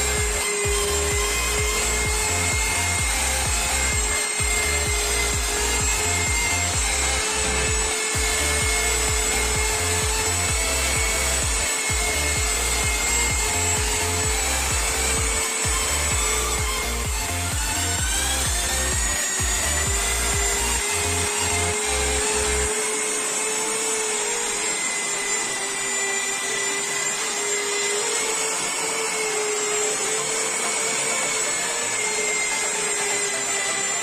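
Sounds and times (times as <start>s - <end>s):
electric sander grinding paint: 0.0s - 34.0s.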